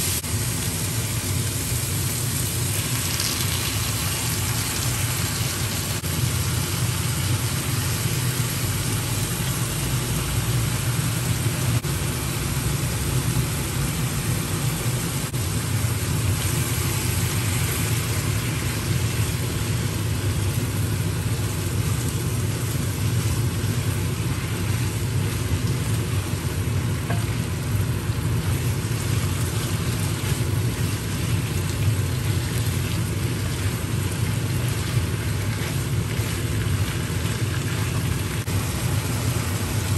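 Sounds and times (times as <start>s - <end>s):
meat sizzling in a pan: 0.0s - 39.9s
steady low hum: 0.0s - 39.9s.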